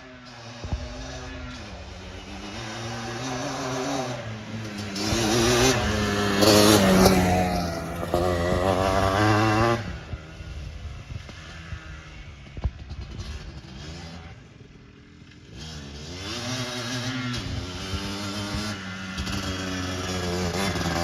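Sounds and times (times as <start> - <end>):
quad bike engine revving: 0.0 - 21.0.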